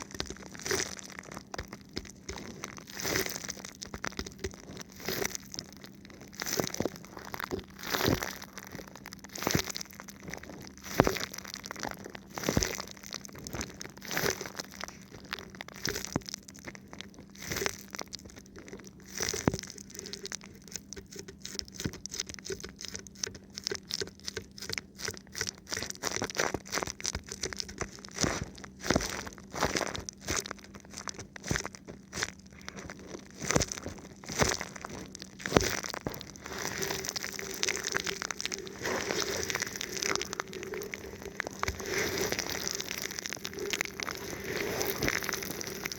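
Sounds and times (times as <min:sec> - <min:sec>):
plastic film crinkling: 0:00.0 - 0:21.3, 0:25.1 - 0:45.9.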